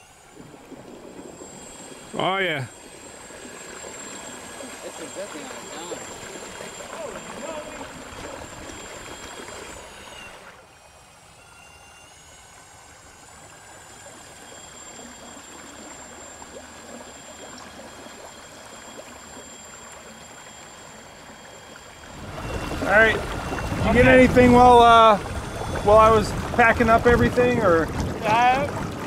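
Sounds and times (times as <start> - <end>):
water rushing and lapping: 0.0 - 11.4, 12.1 - 29.0.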